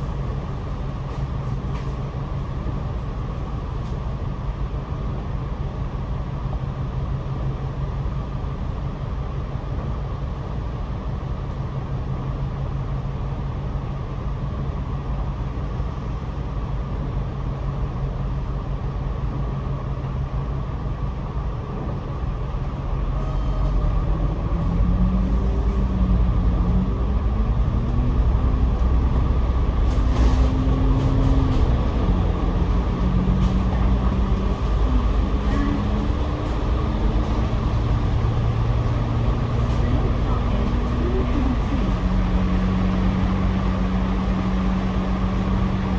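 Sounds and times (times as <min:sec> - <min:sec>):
bus engine and road hum: 0:00.0 - 0:45.9.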